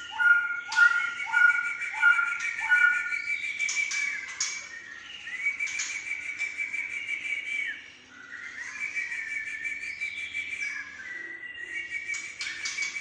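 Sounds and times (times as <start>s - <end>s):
songbird whistling long notes: 0.0s - 13.0s.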